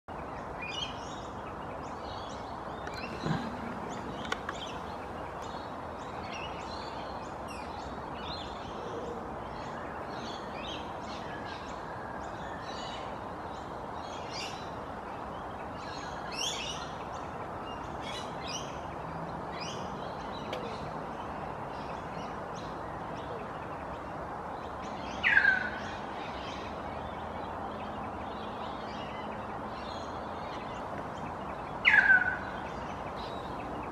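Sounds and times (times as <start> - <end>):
small birds chirping: 0.1 - 33.9
steady background hiss: 0.1 - 33.9.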